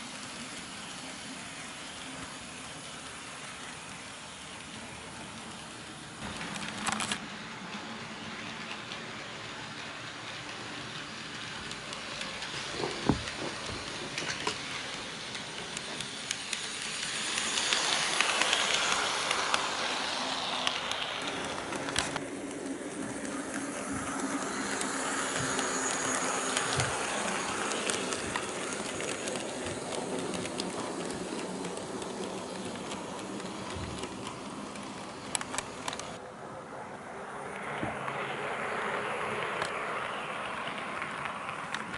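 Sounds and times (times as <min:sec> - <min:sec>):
wheels clicking over rail joints: 0:00.0 - 0:36.2
model train rumbling on track: 0:00.0 - 0:41.9.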